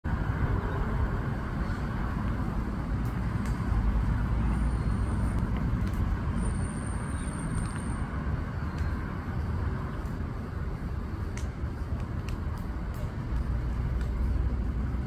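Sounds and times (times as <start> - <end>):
low rumbling background noise: 0.1 - 15.0.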